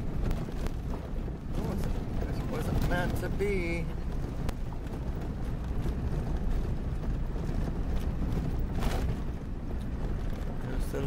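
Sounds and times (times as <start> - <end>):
tyres and engine rumbling: 0.0 - 11.0.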